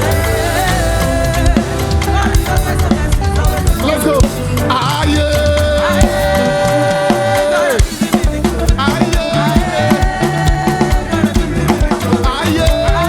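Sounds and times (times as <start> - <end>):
gospel praise music: 0.0 - 13.0
steady drum beat: 0.0 - 13.0.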